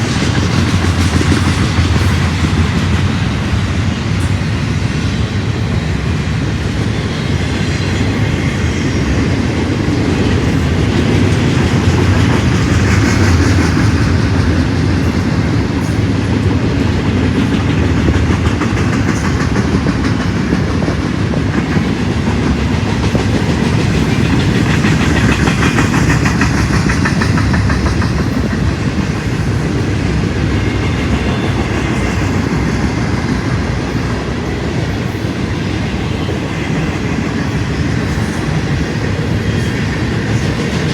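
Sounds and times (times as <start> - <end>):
clickety-clack over rail joints: 0.0 - 40.9
train wheels rumbling on rails: 0.0 - 40.9.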